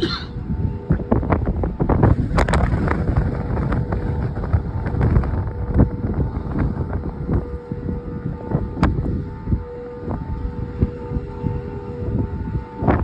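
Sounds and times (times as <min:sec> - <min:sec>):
faint warning siren steady tone: 0:00.0 - 0:13.0
wind buffeting microphone: 0:00.0 - 0:13.0.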